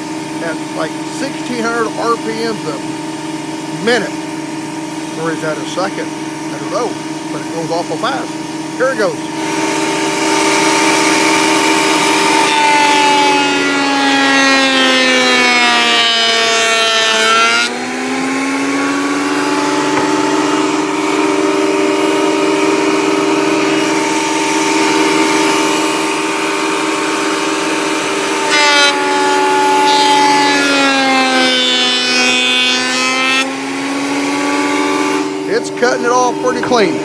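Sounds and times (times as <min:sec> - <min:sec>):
shop vacuum running: 0:00.0 - 0:37.0
thickness planer cutting board: 0:00.0 - 0:37.0.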